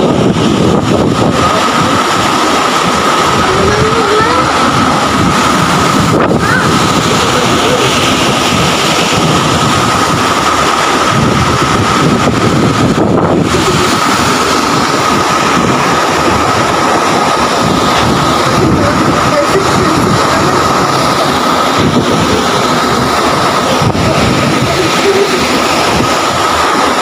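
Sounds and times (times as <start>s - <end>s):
strong wind buffeting microphone: 0.0s - 27.0s
waves breaking over a seawall: 0.0s - 27.0s.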